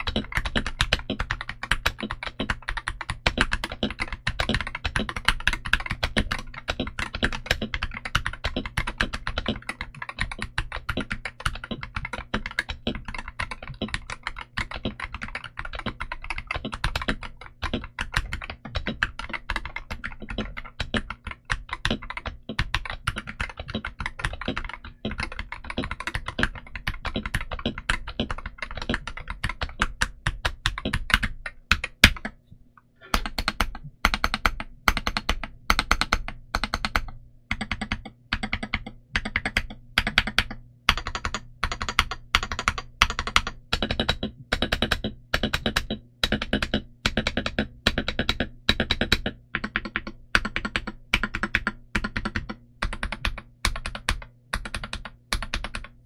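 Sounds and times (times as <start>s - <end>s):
keyboard typing: 0.0s - 32.4s, 33.0s - 56.0s.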